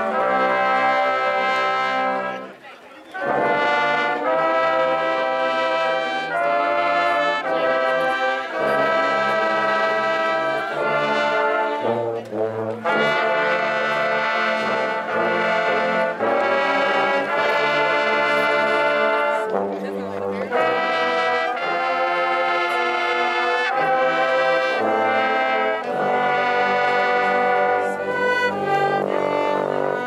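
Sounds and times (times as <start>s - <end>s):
marching band brass chords: 0.0s - 30.0s.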